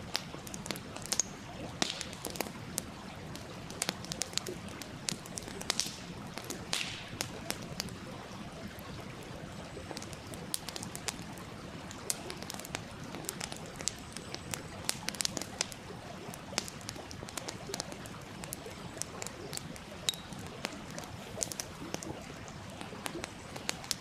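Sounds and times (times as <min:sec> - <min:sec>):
campfire crackling and popping: 0:00.0 - 0:24.0
fire hissing: 0:00.0 - 0:24.0.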